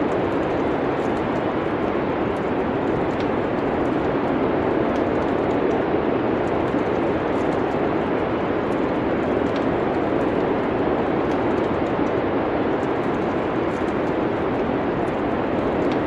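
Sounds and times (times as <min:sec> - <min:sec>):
fireplace crackles: 0:00.0 - 0:16.0.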